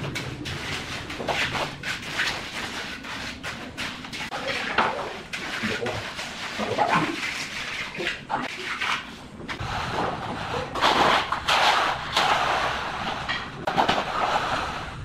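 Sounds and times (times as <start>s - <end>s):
trowel scraping wet concrete: 0.1s - 14.9s.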